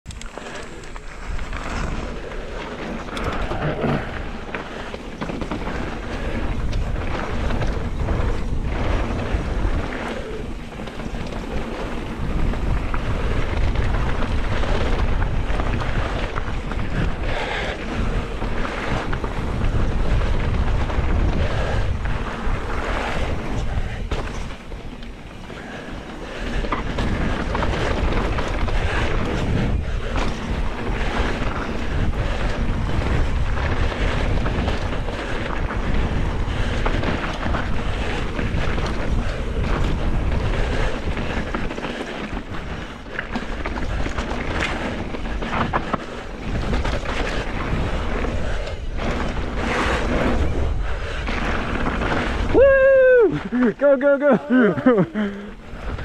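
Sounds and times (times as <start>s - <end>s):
bike rattling and knocking: 0.0s - 56.0s
wind buffeting microphone: 0.0s - 56.0s
tyre noise: 0.1s - 56.0s.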